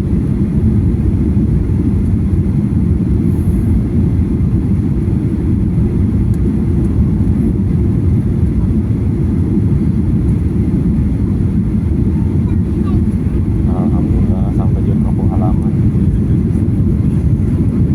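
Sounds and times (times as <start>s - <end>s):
airliner cabin engine rumble: 0.0s - 17.9s.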